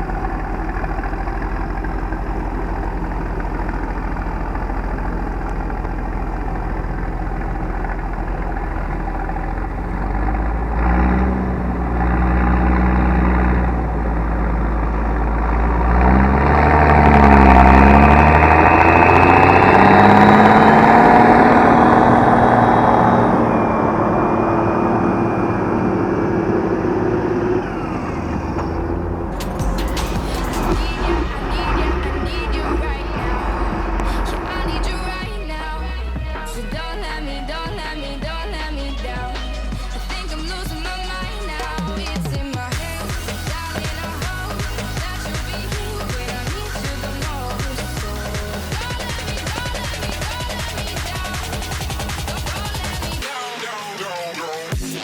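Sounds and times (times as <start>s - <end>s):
tractor diesel engine revving: 0.0s - 53.2s.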